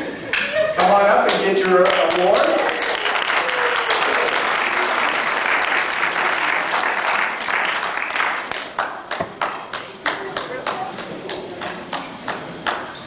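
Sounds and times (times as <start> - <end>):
audience applauding: 0.8 - 12.9.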